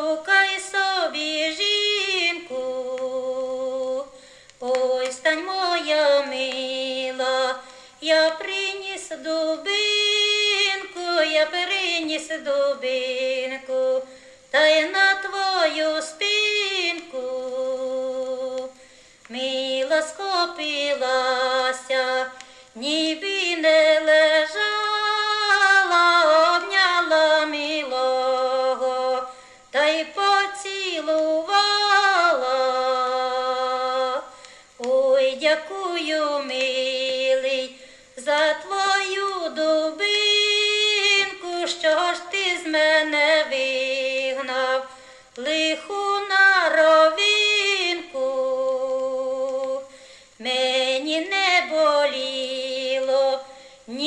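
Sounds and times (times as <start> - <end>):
woman singing folk song: 0.0 - 54.0.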